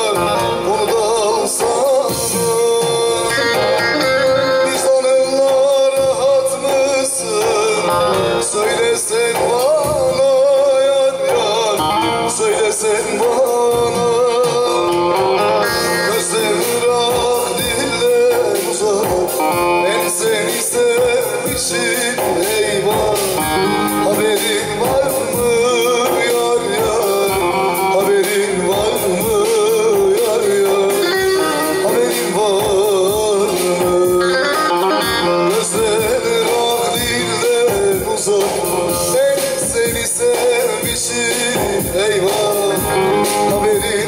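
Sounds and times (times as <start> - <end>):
man singing folk song: 0.0 - 44.0.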